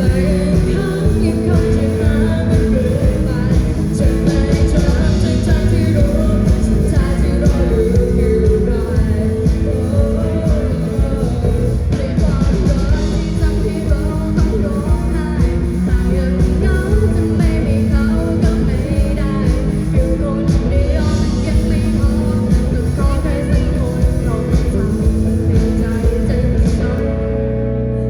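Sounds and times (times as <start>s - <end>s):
person singing: 0.0s - 28.0s
rock band playing live: 0.0s - 28.0s.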